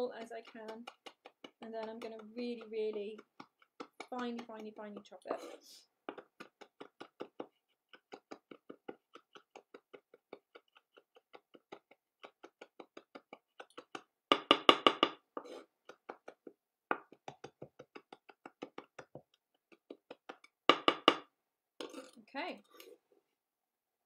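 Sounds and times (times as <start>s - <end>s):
knife chopping on wooden board: 0.1s - 21.3s.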